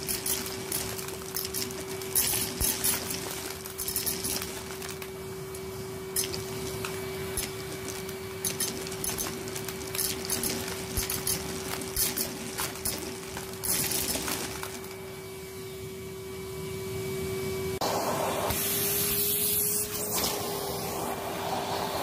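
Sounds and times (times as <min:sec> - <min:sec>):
vacuum cleaner humming: 0:00.0 - 0:22.0.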